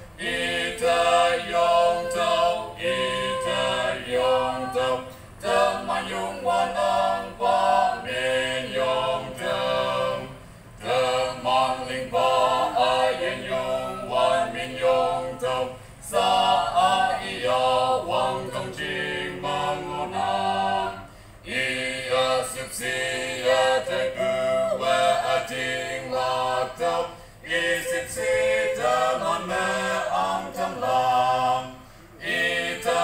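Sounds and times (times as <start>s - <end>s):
vocal quartet singing: 0.0s - 33.0s.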